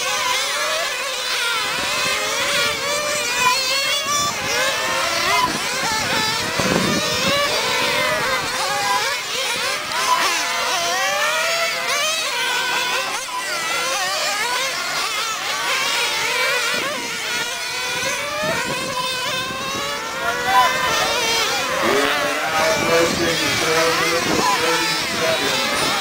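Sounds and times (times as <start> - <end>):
rc car engines revving: 0.0 - 26.0.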